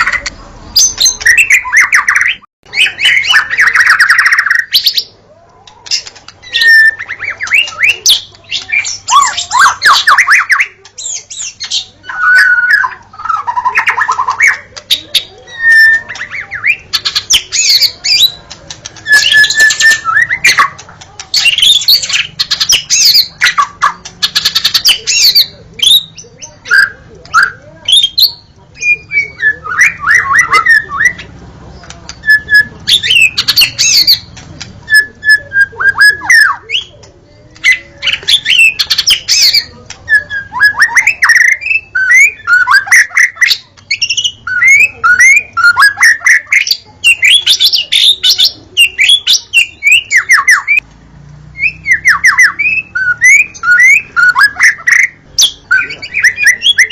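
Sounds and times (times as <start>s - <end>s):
bird singing whistles and chatter: 0.0s - 50.8s, 51.5s - 56.9s.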